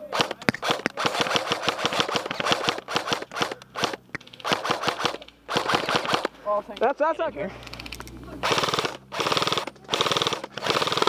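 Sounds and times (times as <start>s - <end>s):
airsoft guns firing bursts: 0.0s - 6.8s, 7.6s - 11.0s.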